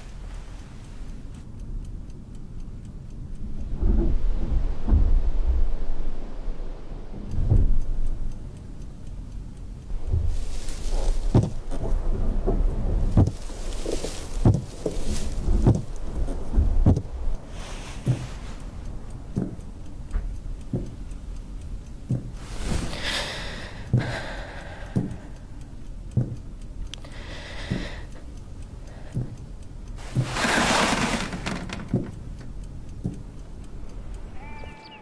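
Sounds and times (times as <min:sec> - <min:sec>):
soft rustling hisses: 0:00.0 - 0:34.4
clock ticking: 0:00.0 - 0:35.0.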